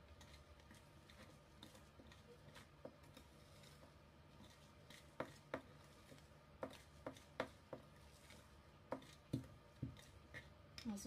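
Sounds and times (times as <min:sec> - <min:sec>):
whisk tapping ceramic bowl: 0:00.0 - 0:11.0.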